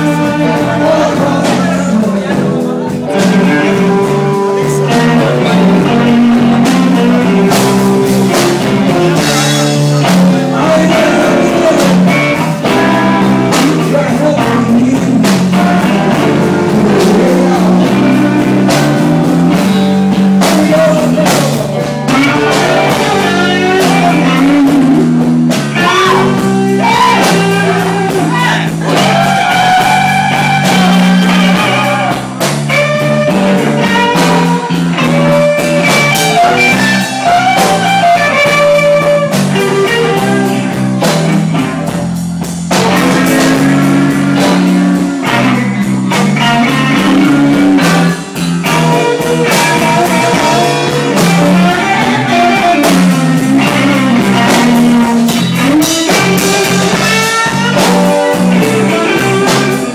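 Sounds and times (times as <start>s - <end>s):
blues band playing: 0.0s - 59.9s
drums: 0.0s - 59.9s
electric guitar lead: 0.0s - 59.9s.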